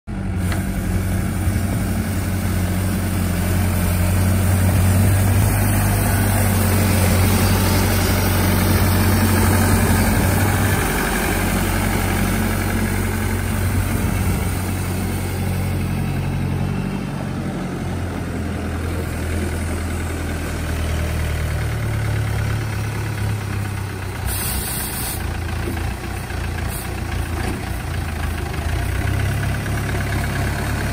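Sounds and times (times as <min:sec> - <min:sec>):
tractor diesel engine droning: 0:00.1 - 0:30.9.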